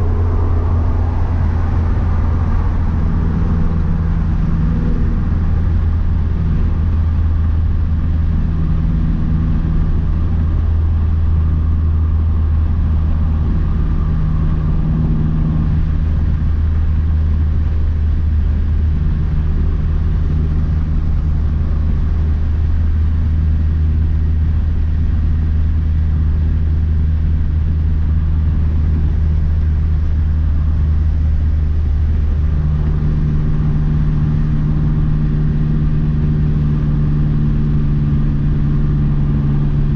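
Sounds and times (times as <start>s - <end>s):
car engine cruising drone: 0.0s - 39.9s
road noise: 0.0s - 39.9s.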